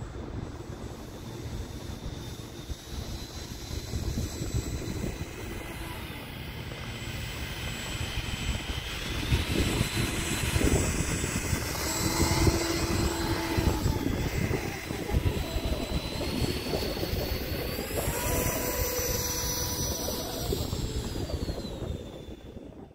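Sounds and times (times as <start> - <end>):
low rumble of wind and rolling: 0.0 - 22.9
model jet fans whining: 0.0 - 22.9.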